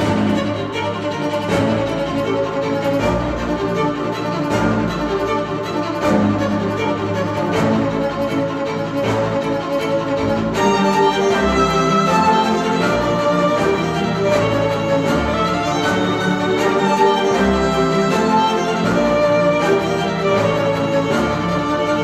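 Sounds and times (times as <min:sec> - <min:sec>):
bowed strings: 0:00.0 - 0:22.0.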